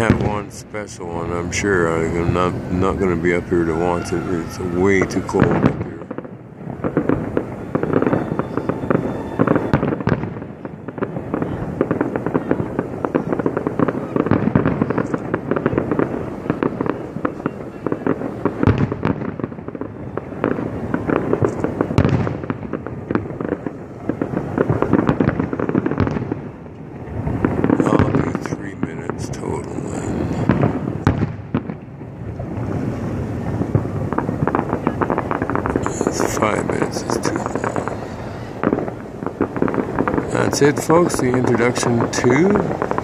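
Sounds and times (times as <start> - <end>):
fireworks bangs and crackles: 0.0 - 43.0
loud firework booms: 0.0 - 43.0.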